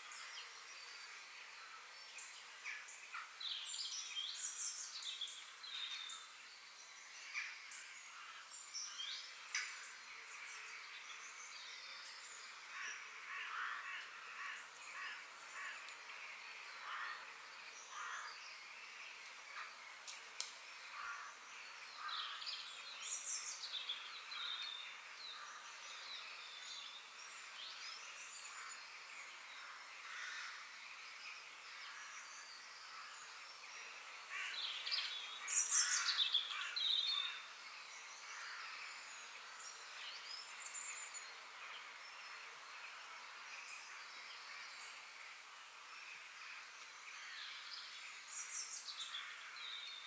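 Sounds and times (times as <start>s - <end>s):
outdoor ambient hiss: 0.0s - 50.0s
wild birds chirping: 0.0s - 50.0s.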